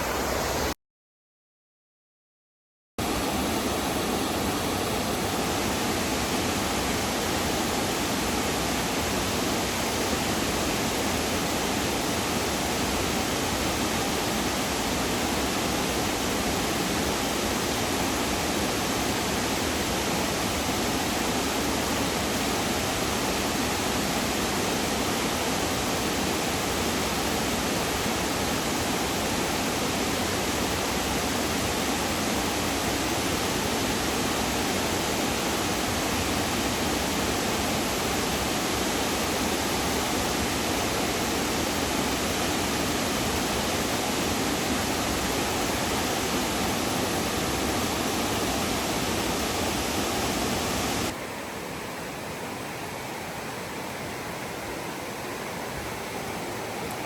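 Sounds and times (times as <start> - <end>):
whitewater rushing: 0.0 - 0.8, 3.0 - 57.0.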